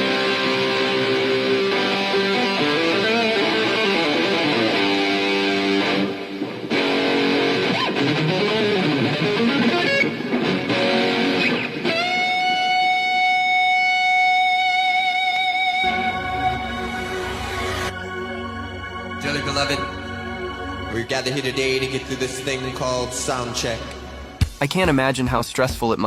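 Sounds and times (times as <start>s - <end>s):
electric guitar with string bends: 0.0s - 24.6s.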